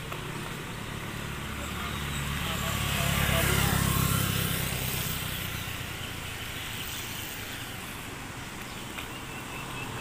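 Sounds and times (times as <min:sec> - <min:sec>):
passing cars rumble: 0:00.0 - 0:10.0.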